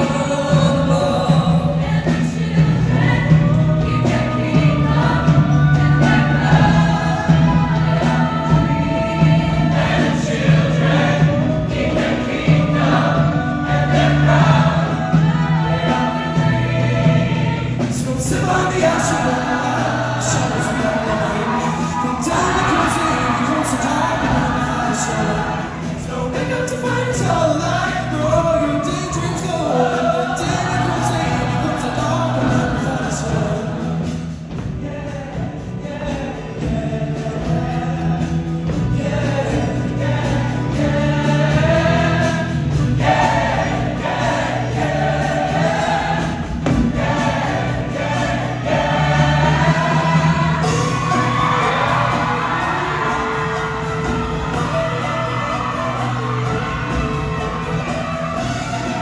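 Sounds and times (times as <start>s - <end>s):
instrumental backing music: 0.0s - 59.0s
show choir singing: 0.0s - 59.0s.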